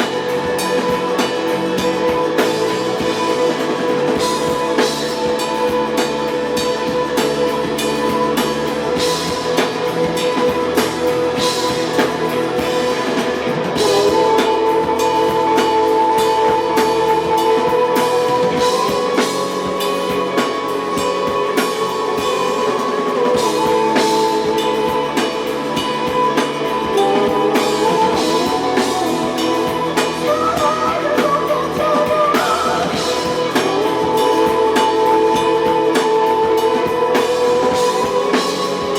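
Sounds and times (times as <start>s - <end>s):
drum kit and cymbals: 0.0s - 38.9s.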